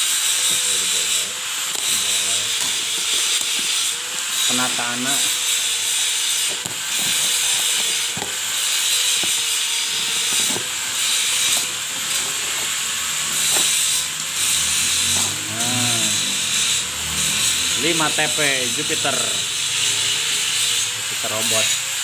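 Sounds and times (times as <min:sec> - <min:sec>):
cardboard and plastic tearing: 0:00.2 - 0:18.3.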